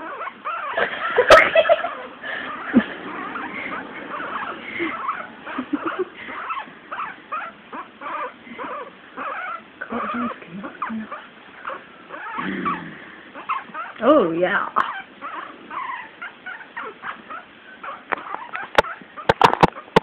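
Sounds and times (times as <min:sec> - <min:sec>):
guinea pig squeaking: 0:00.0 - 0:00.8, 0:03.3 - 0:12.8, 0:13.4 - 0:20.0
low longer guinea pig sound: 0:01.8 - 0:20.0.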